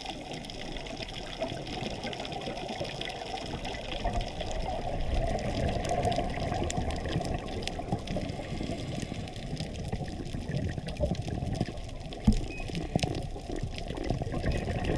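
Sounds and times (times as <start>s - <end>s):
clicks and crackles: 0.0s - 14.9s
underwater water rush: 0.0s - 14.9s.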